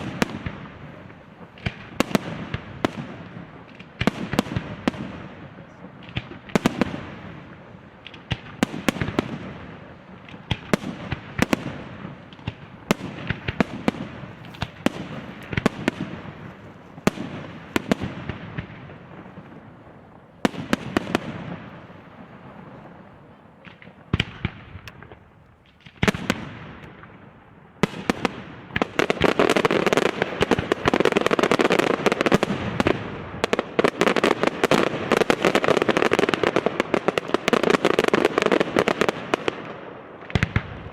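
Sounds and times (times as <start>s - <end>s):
firework shells booming: 0.0s - 40.9s
rapid firework bangs and crackling: 0.0s - 40.9s.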